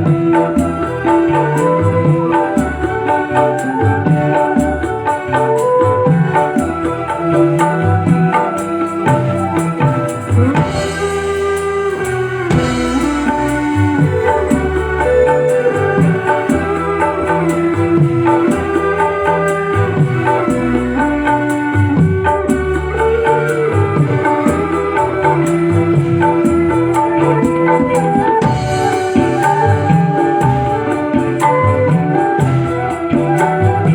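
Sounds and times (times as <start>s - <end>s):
bass line: 0.0s - 33.9s
drums: 0.0s - 33.9s
electronic keyboard organ melody: 0.0s - 33.9s.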